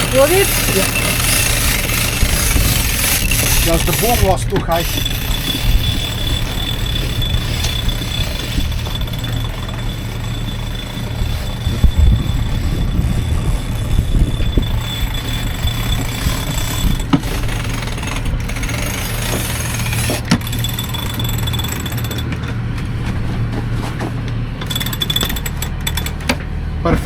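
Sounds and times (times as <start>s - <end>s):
diesel engine knocking rhythmically: 0.0s - 27.0s.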